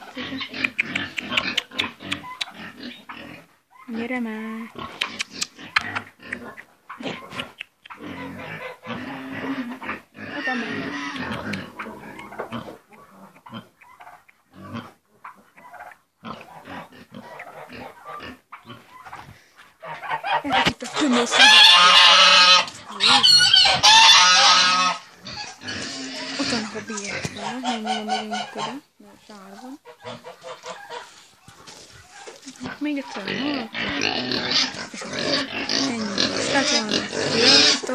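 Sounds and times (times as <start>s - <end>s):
pigs grunting: 0.0s - 19.0s, 19.8s - 37.9s
pig squealing: 0.0s - 19.2s, 19.8s - 28.9s, 29.8s - 37.9s.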